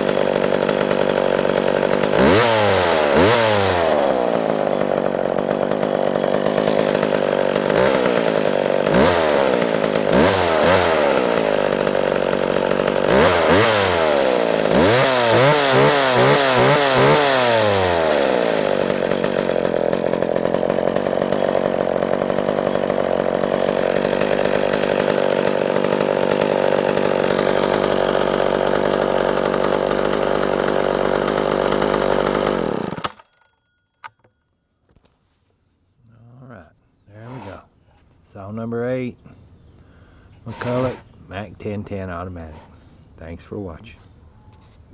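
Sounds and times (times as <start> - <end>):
chainsaw revving and idling: 0.0 - 33.3, 37.1 - 37.7, 39.8 - 43.9.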